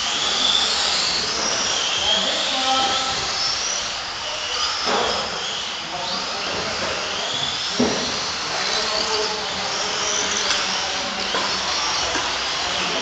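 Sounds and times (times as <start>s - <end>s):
electric toy car motors whining: 0.0s - 13.0s.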